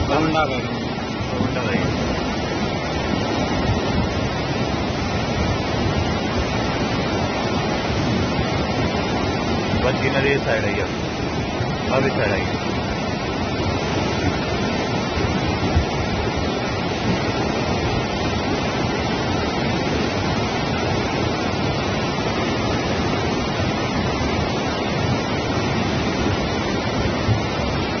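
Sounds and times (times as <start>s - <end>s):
flooded river rushing: 0.0s - 28.0s.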